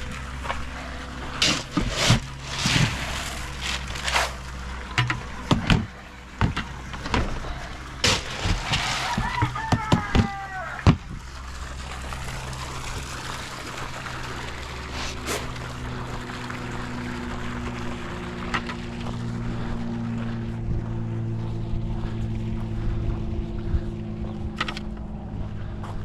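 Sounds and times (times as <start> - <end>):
engine-like hum: 0.0 - 26.0.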